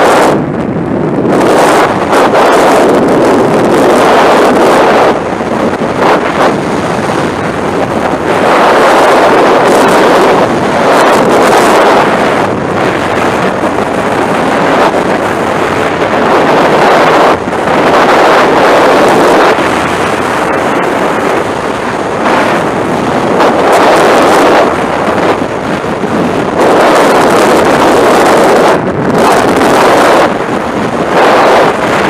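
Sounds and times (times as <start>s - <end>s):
freefall wind rushing: 0.0s - 32.0s.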